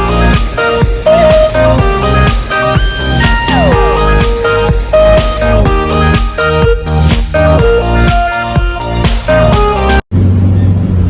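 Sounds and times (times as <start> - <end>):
electronic music with a beat: 0.0 - 10.0.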